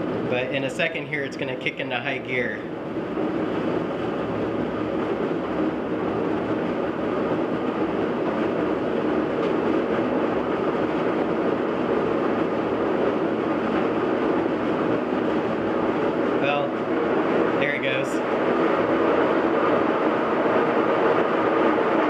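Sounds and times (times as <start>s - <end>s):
washing machine spinning rumble: 0.0s - 22.0s.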